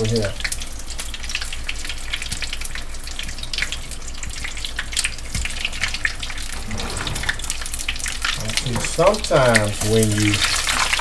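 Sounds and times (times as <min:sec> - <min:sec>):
deep-frying sizzle: 0:00.0 - 0:11.0.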